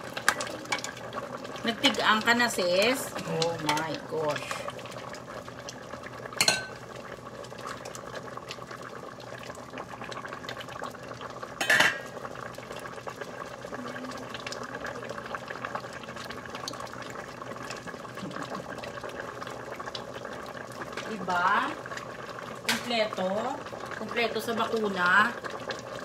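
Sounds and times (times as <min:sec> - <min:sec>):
pot simmering with bubbling: 0:00.0 - 0:26.0.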